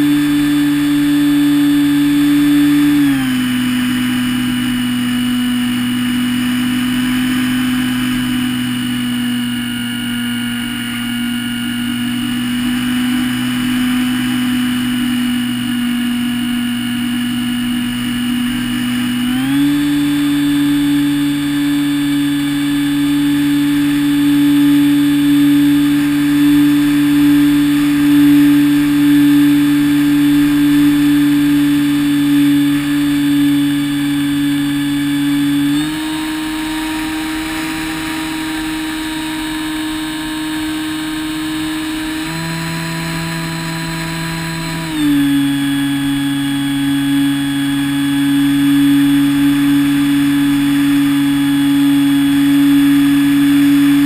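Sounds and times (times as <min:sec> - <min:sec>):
electric motor propeller whine: 0:00.0 - 0:54.0.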